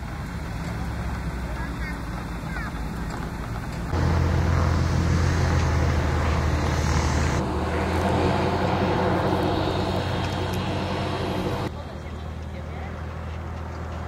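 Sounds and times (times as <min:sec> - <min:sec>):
airship propeller engines droning: 0:00.0 - 0:12.9.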